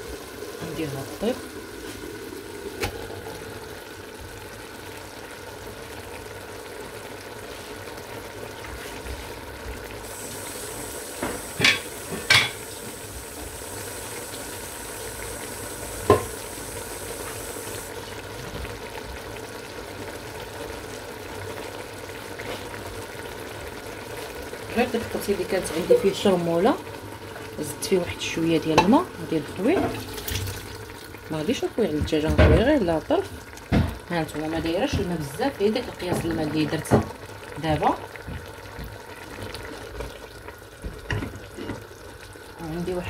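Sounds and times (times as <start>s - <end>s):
onions sizzling in a pot: 0.0s - 43.0s.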